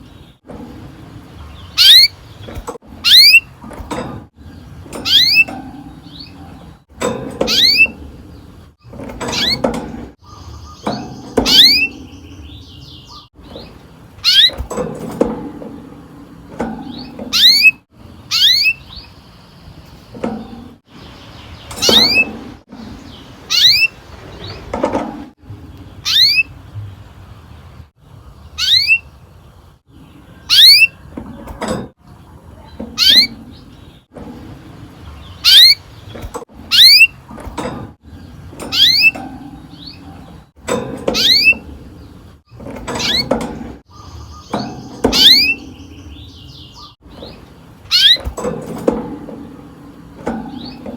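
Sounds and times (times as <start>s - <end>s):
canary chirping: 0.0s - 15.3s, 16.6s - 24.9s, 25.7s - 26.7s, 28.3s - 48.8s.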